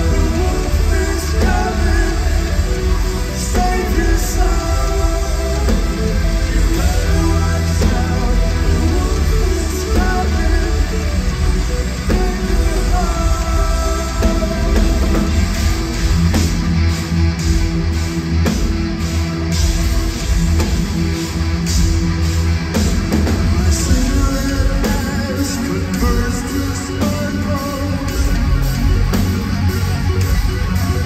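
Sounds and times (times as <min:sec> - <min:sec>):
bass guitar: 0:00.0 - 0:31.0
drum kit with cymbals: 0:00.0 - 0:31.0
electric guitar: 0:00.0 - 0:31.0.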